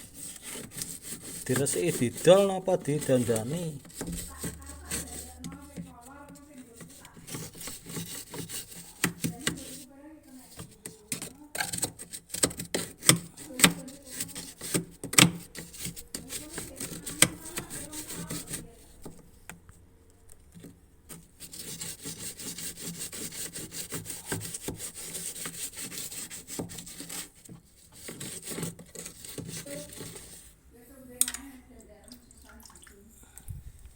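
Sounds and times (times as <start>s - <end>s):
toothbrush scrubbing: 0.0s - 19.2s, 21.1s - 30.6s.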